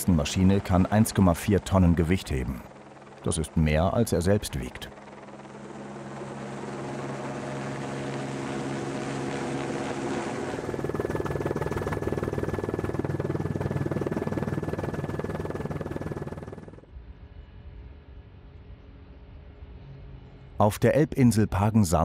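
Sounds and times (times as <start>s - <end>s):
helicopter rotor and turbine: 0.0s - 22.0s.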